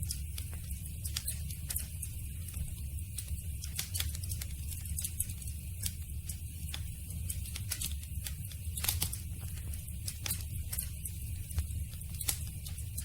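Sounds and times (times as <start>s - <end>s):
low rumble of flames: 0.0s - 13.0s
wood crackling and popping: 0.0s - 13.0s.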